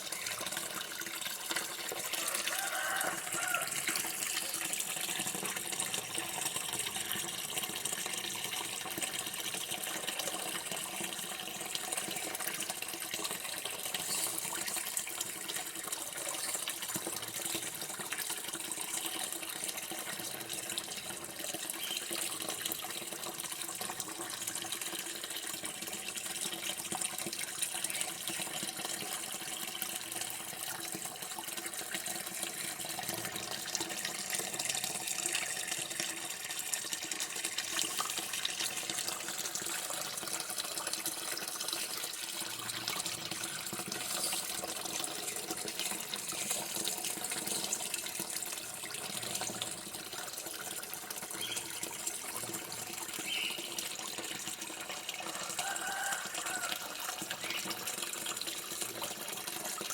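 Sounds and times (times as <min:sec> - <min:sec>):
running water stream: 0:00.0 - 0:59.9.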